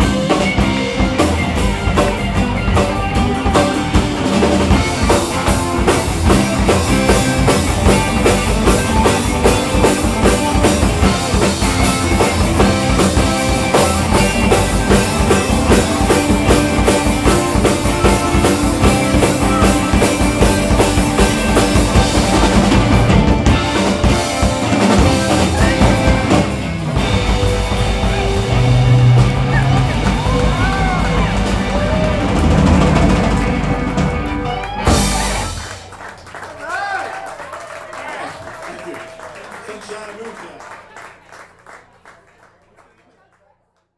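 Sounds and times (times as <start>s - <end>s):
electric bass: 0.0s - 36.0s
electric guitars: 0.0s - 36.1s
drum kit: 0.0s - 36.3s.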